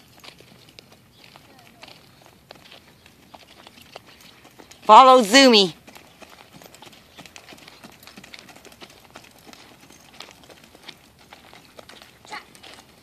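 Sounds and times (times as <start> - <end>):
soft hoofbeats on sand: 0.0 - 13.0.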